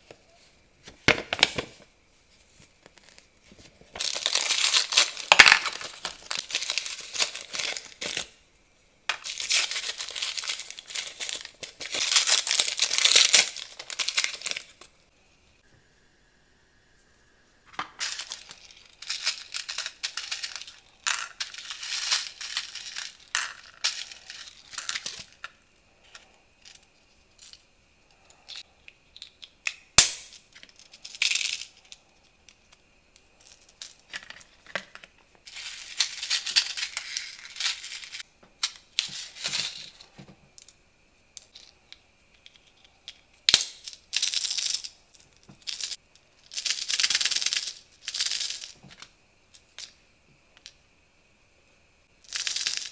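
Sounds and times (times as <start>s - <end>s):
plastic toy parts crinkling and clicking: 2.8s - 8.4s, 9.1s - 14.9s, 17.8s - 27.6s, 28.2s - 40.8s, 41.4s - 50.0s, 52.3s - 52.9s.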